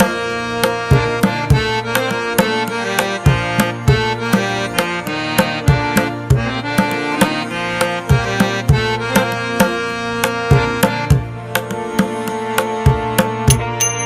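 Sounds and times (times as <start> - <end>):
sustained melody: 0.0 - 14.0.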